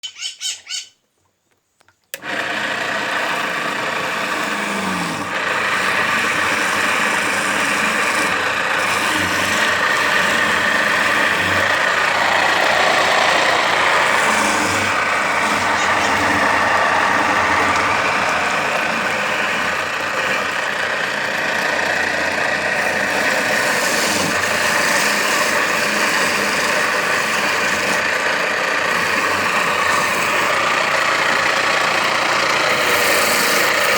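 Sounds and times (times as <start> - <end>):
juicer motor grinding and whining: 2.1 - 33.9.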